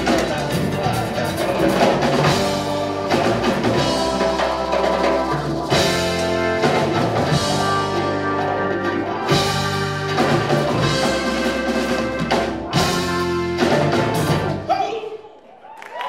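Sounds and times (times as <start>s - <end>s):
electric guitars: 0.0s - 14.7s
bass guitar: 0.0s - 14.8s
congas and timbales: 0.0s - 14.8s
drum kit: 0.0s - 14.8s.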